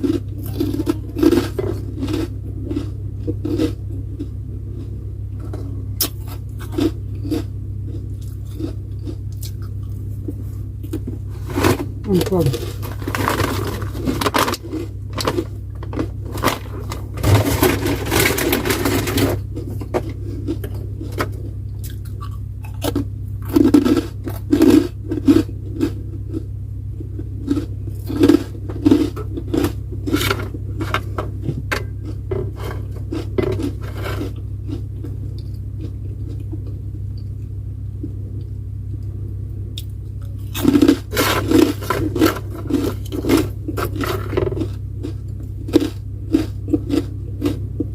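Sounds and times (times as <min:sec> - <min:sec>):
chewing and crunching: 0:00.0 - 0:47.9
steady low hum: 0:00.0 - 0:47.9.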